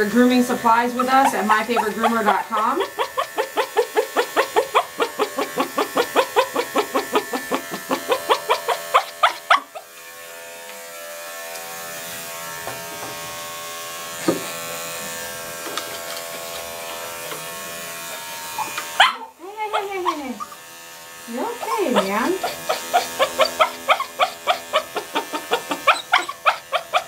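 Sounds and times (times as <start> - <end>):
electric clipper running: 0.0 - 27.0.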